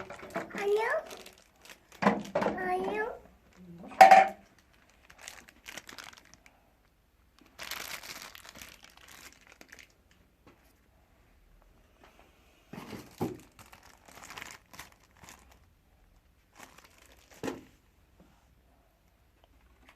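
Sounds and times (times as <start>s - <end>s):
crinkling and rustling: 0.0s - 10.9s, 11.9s - 18.3s, 19.3s - 19.9s.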